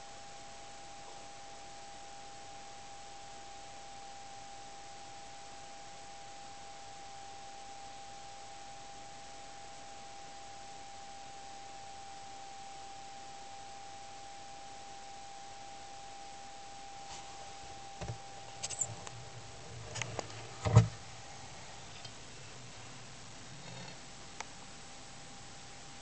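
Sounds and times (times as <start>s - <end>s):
faint high hum: 0.0s - 26.0s
recording hiss: 0.0s - 26.0s.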